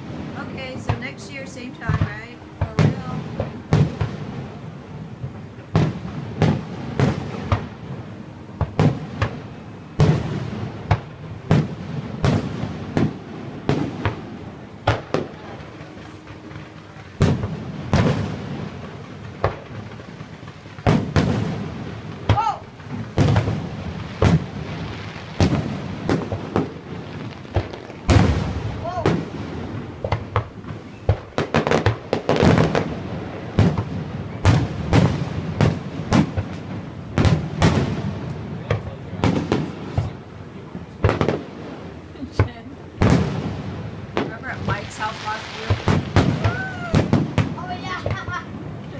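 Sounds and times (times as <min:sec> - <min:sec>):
fireworks booming and banging: 0:00.0 - 0:48.9.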